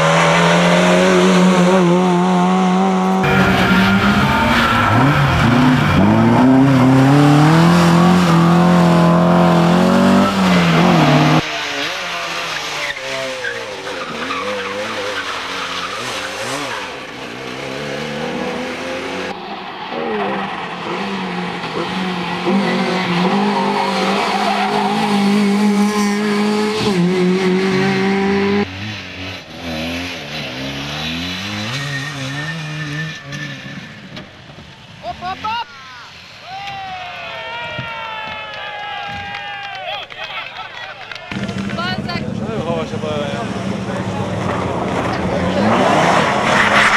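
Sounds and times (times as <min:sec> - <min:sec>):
rally car engines revving: 0:00.0 - 0:36.4, 0:40.2 - 0:46.9.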